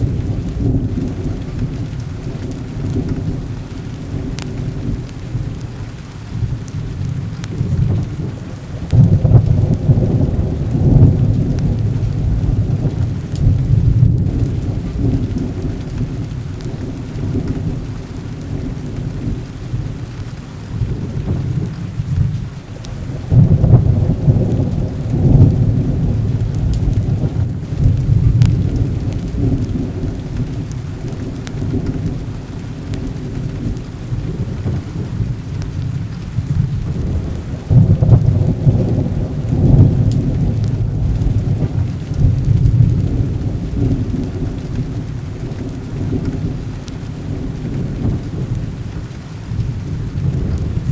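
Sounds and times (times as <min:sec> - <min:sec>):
heavy rain falling: 0:00.0 - 0:50.9
rolling thunder: 0:00.0 - 0:50.9.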